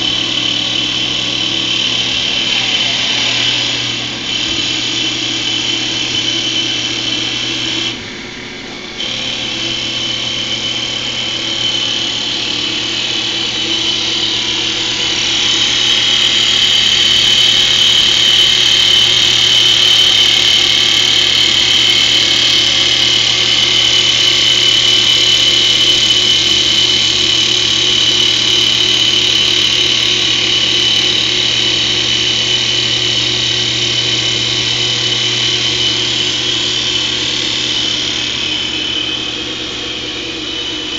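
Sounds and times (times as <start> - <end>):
hiss of wood being cut: 0.0 - 40.9
lathe machine whine: 0.0 - 40.9.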